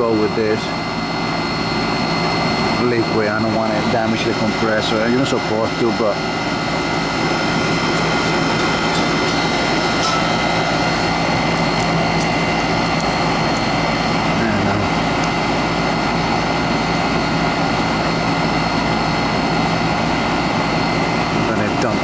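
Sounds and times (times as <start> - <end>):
compressor low hum: 0.0 - 22.0
fan rush of air: 0.0 - 22.0.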